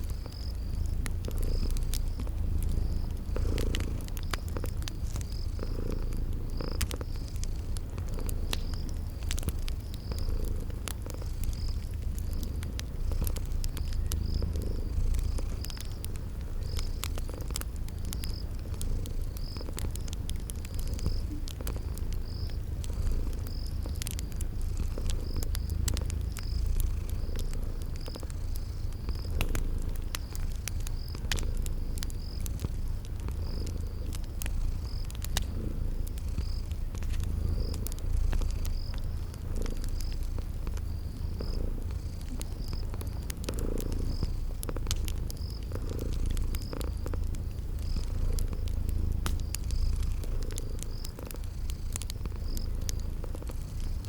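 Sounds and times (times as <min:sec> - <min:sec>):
cat purring: 0:00.0 - 0:54.0
cricket chirping: 0:00.0 - 0:54.0
wood fire crackling: 0:00.0 - 0:54.0.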